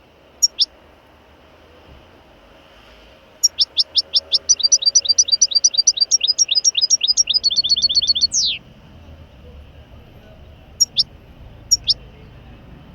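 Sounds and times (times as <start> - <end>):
songbird chirping: 0.0 - 0.8, 3.3 - 12.9.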